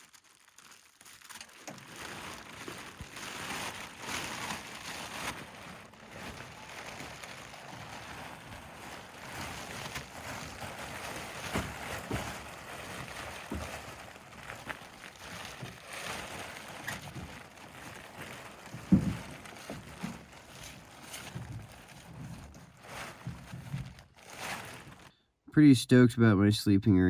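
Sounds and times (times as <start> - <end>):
fabric rustling: 0.0 - 25.1.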